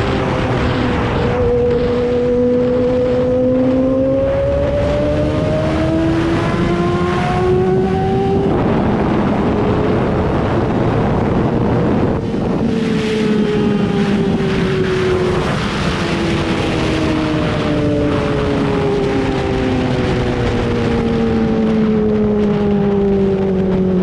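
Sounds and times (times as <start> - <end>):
motorcycle engine revving: 0.0 - 24.0
wind rush on microphone: 0.0 - 24.0.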